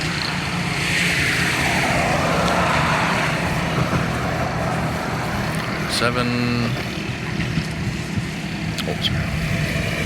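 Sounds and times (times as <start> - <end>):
low rumble of traffic: 0.0 - 10.0
vehicle passing close by: 0.0 - 10.0.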